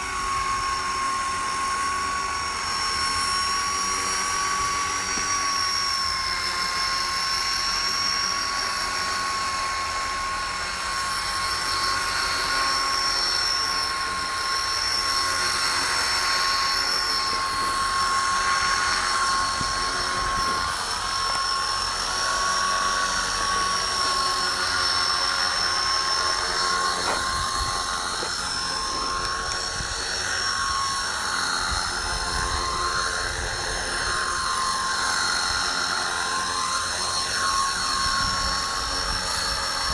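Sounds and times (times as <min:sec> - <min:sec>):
electric motor whine: 0:00.0 - 0:39.9
rotor blades whirring: 0:00.0 - 0:39.9.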